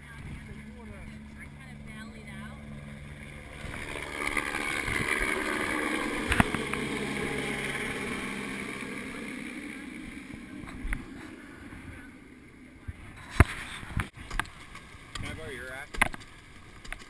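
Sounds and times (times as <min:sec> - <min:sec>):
helicopter flying past: 0:00.0 - 0:14.1.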